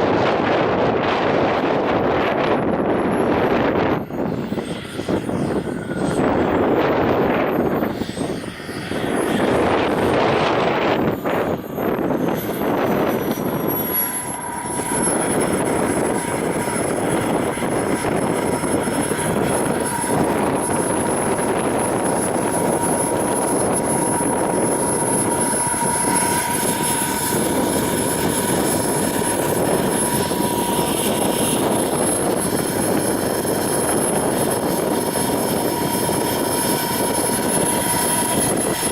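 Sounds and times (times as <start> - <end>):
turbine whine: 0.0 - 38.9.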